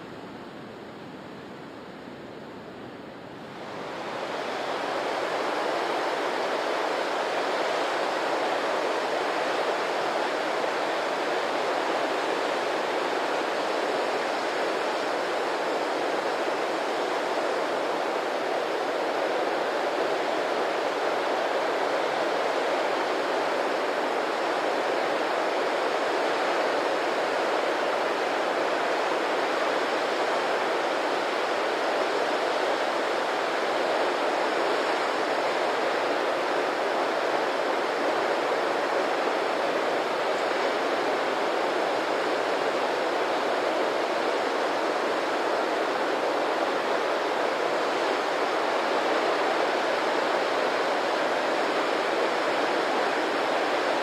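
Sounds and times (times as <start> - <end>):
rushing water: 3.4 - 54.0.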